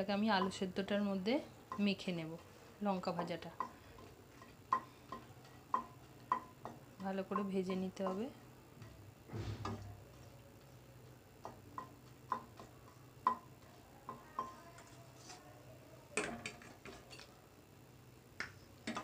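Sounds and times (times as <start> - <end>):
chillies frying in oil: 0.0 - 19.0.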